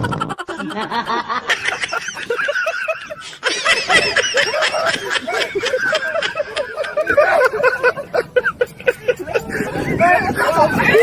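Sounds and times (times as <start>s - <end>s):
people giggling and laughing: 0.0s - 11.0s.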